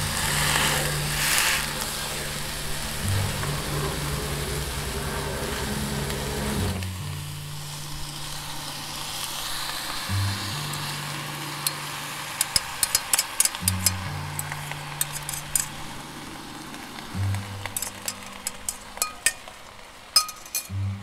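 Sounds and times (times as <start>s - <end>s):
background music with bass: 0.0s - 9.3s, 10.0s - 12.0s, 13.6s - 19.4s, 20.7s - 21.0s
vegetables sizzling in a pan: 0.0s - 21.0s.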